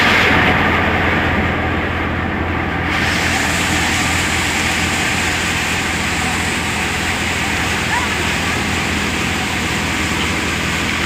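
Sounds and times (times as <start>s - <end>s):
threshing machine droning: 0.0s - 11.0s.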